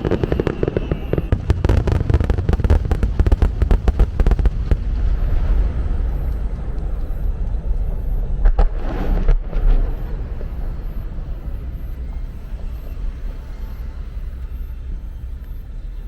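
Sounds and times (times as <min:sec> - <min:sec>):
sharp fireworks bangs: 0:00.0 - 0:15.8
fireworks rumble: 0:00.0 - 0:16.0.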